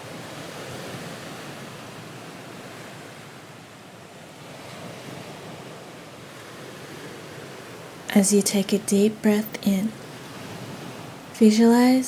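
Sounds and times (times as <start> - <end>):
ocean waves on shore: 0.0 - 12.0.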